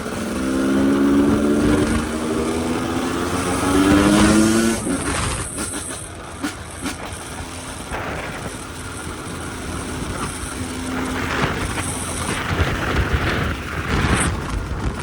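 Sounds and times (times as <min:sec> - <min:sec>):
dirt bike engine running: 0:00.0 - 0:15.0
wind rumbling on microphone: 0:00.0 - 0:15.0.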